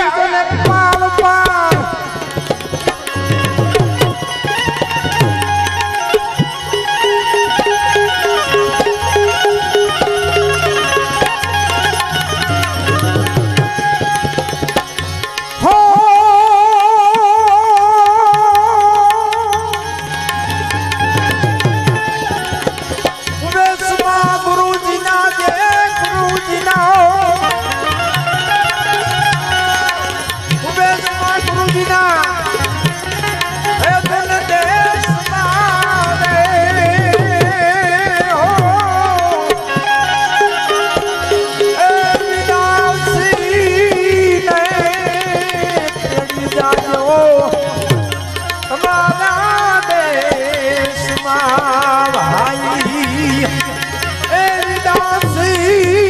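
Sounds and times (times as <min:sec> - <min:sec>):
tabla playing steady beat: 0:00.0 - 0:56.0.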